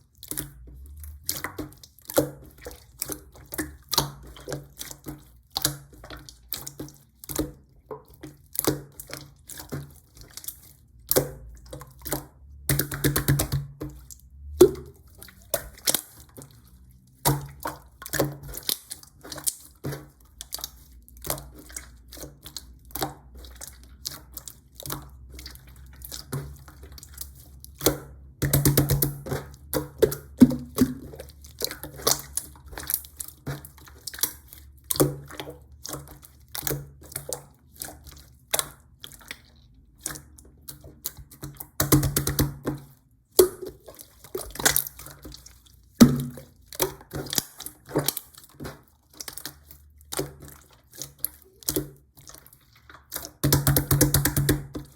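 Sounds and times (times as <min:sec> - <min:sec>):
slime squishing and popping: 0:00.1 - 0:54.9.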